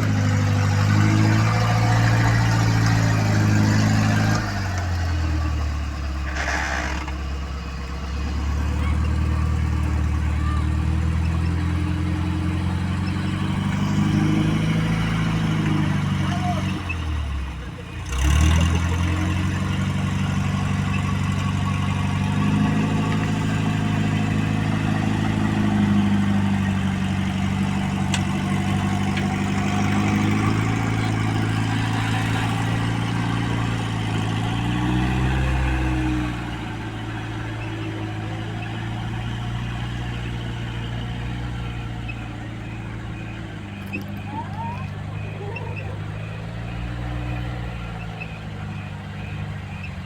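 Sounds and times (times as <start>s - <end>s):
vehicle engine revving low: 0.0s - 50.0s.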